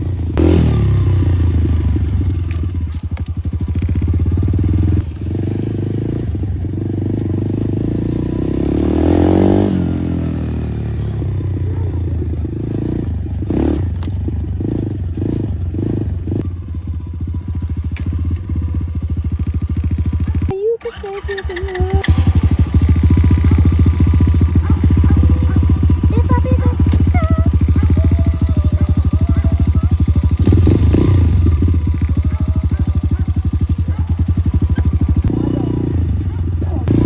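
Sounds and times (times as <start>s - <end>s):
dirt bike engine running: 0.0s - 37.0s.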